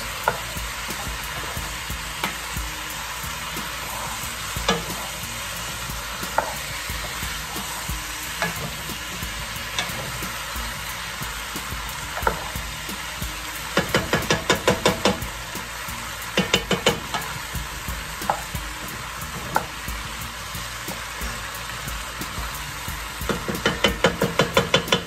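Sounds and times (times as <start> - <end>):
vegetables sizzling in a pot: 0.0 - 25.0.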